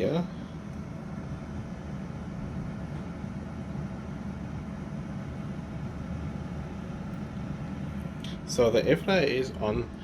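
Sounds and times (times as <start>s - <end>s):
air fryer fan whirring: 0.0s - 10.0s.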